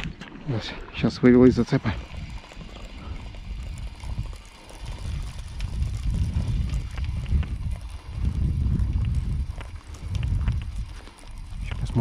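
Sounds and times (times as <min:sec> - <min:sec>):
wind buffeting microphone: 0:00.9 - 0:12.0
fishing reel ticking: 0:01.1 - 0:12.0.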